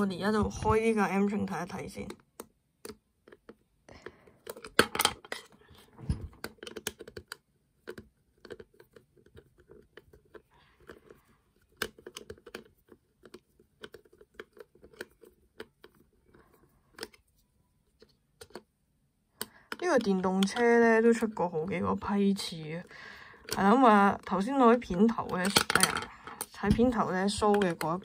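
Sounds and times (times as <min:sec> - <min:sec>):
plastic clicks and scratches: 0:01.9 - 0:18.7, 0:19.3 - 0:21.4, 0:23.3 - 0:28.0.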